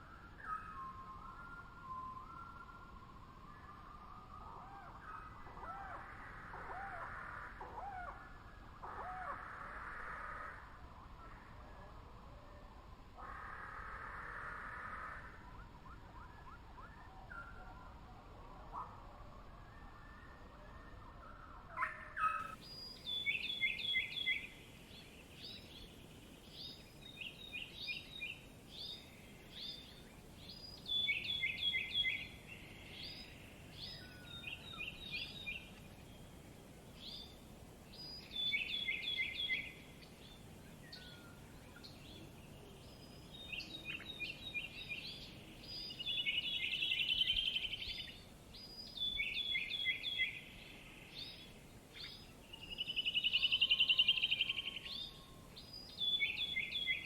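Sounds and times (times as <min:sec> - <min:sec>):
faint background noise: 0:00.0 - 0:57.0
songbird chirping: 0:00.0 - 0:57.0.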